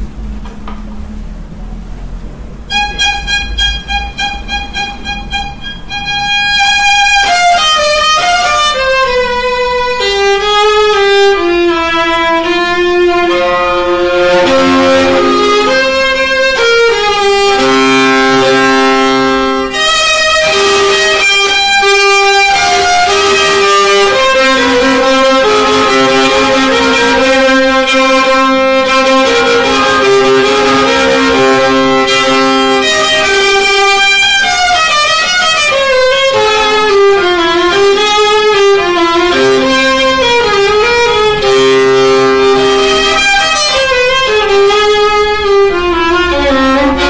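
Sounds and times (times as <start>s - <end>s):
solo violin bowed melody: 2.7s - 47.0s.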